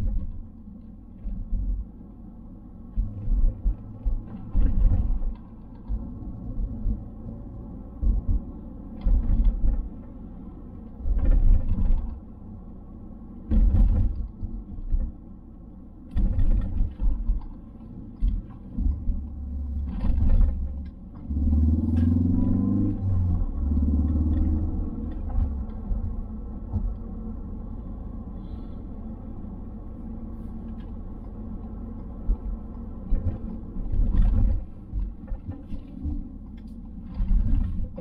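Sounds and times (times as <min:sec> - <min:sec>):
car engine drone: 0:00.0 - 0:38.0
road noise: 0:00.0 - 0:38.0.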